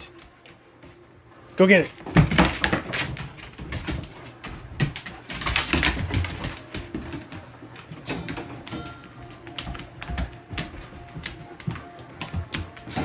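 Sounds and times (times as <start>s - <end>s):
dogs scuffling: 1.9s - 13.0s
dog claws skittering on floorboards: 2.0s - 13.0s.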